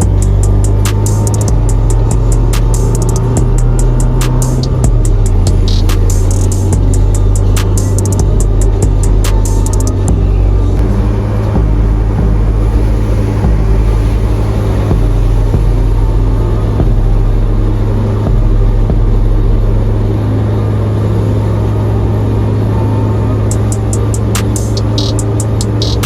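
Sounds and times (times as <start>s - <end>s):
car engine low drone: 0.0s - 26.0s.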